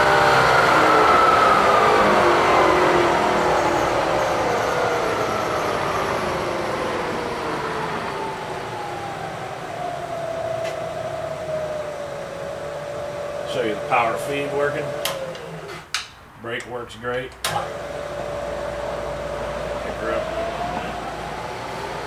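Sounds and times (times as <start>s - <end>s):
mill motor whine spinning down: 0.0s - 15.9s, 17.5s - 22.0s.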